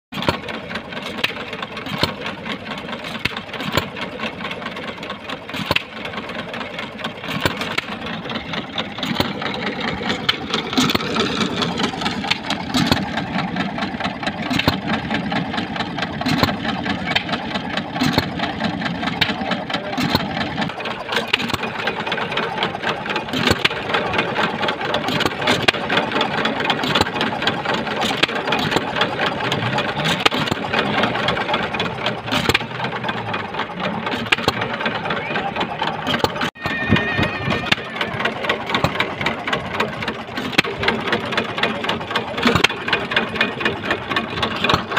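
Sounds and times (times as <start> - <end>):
stationary engine exhaust pops: 0.1 - 36.6, 38.4 - 44.9
steady mechanical clatter: 0.1 - 44.9.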